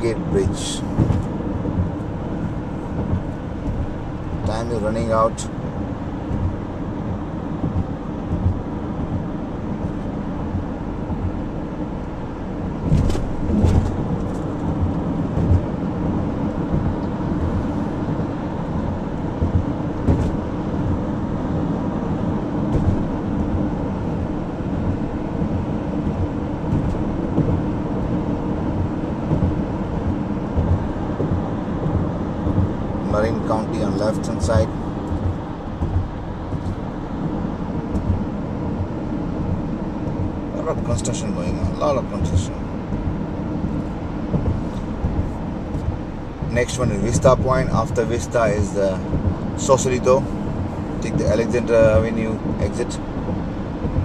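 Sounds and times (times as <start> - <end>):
tyre and wind road noise: 0.0 - 54.0.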